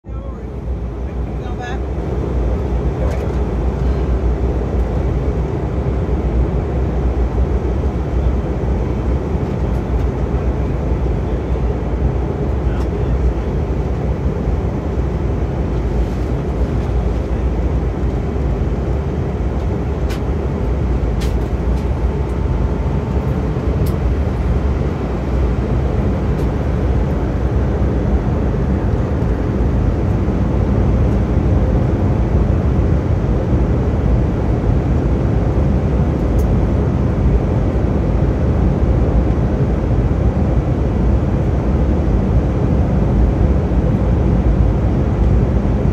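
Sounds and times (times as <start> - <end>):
airliner cabin engine noise: 0.0 - 45.9.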